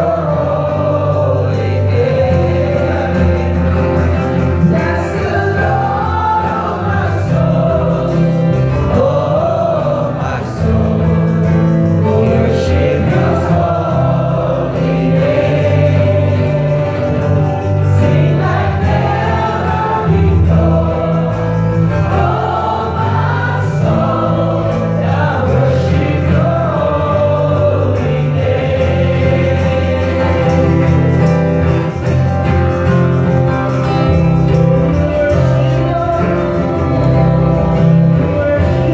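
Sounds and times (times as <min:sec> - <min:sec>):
band with bass and drums: 0:00.0 - 0:38.9
group of voices singing: 0:00.0 - 0:38.9.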